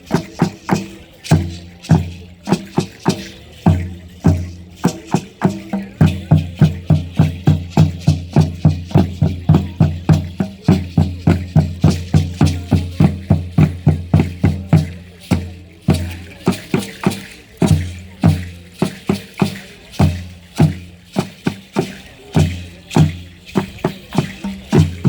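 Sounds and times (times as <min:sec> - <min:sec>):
deep drum fast beat: 0:00.0 - 0:25.0
shaken rattles: 0:00.0 - 0:25.0.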